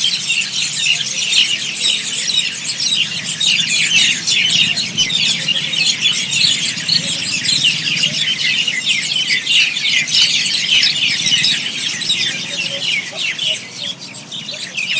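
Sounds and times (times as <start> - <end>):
flock of birds chirping: 0.0 - 14.9.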